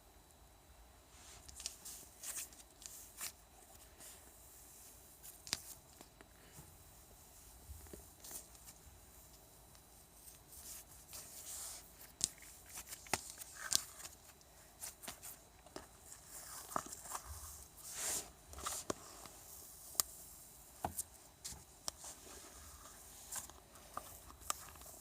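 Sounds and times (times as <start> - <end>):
rustling of handled objects: 1.1 - 25.0.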